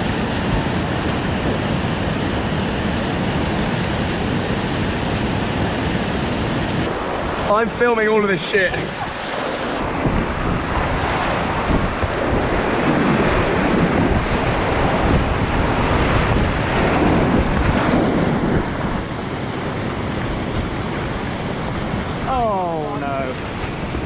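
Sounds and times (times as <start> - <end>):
river whitewater rushing and splashing: 0.0 - 24.0.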